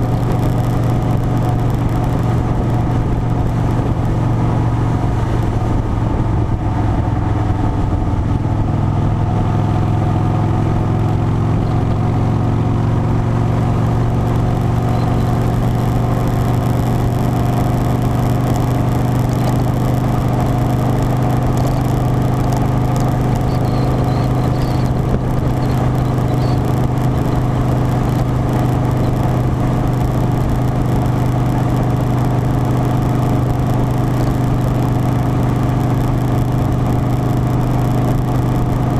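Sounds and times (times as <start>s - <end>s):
motorcycle engine running: 0.0s - 38.9s
steady rush of noise: 0.0s - 38.9s.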